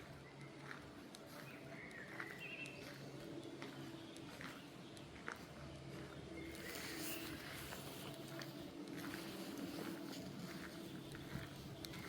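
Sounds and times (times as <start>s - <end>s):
faint footsteps on a path: 0.0s - 12.0s.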